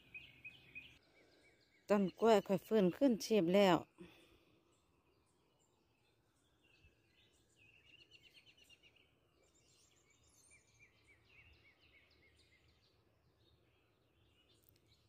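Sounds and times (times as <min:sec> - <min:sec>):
faint songbird calls: 0:00.0 - 0:15.0.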